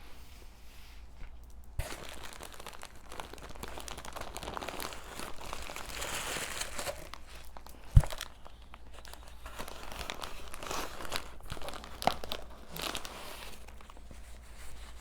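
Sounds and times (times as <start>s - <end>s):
gift bag crinkling: 1.8s - 15.0s.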